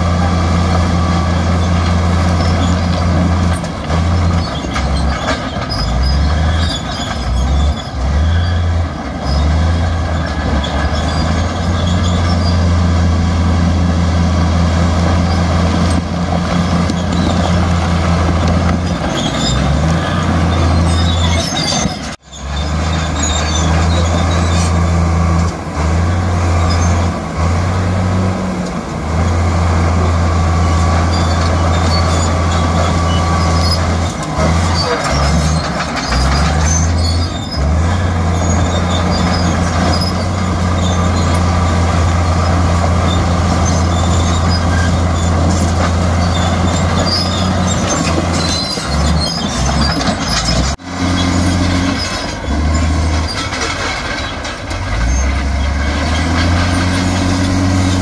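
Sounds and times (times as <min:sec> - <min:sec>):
heavy diesel machine engine: 0:00.0 - 0:58.0.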